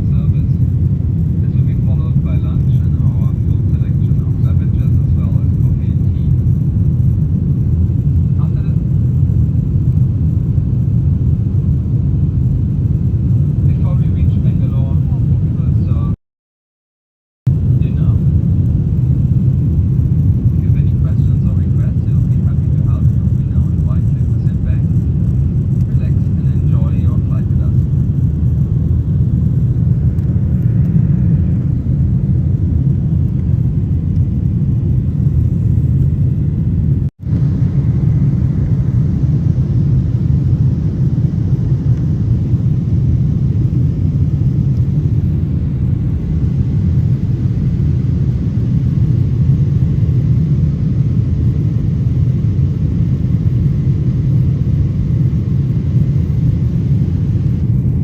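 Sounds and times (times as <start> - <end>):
airliner cabin engine rumble: 0.0 - 16.2, 17.5 - 58.0.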